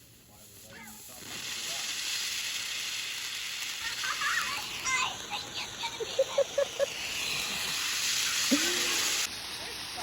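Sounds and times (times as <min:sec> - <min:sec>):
firework hissing: 0:00.0 - 0:10.0.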